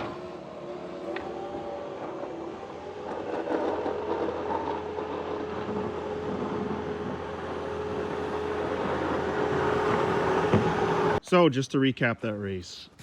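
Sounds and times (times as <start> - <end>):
diesel engine under load: 0.0 - 11.2.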